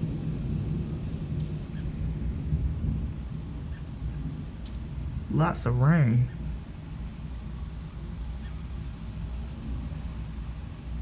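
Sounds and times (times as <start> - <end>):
steady rain: 0.0 - 11.0
thunder rumbling: 0.0 - 11.0.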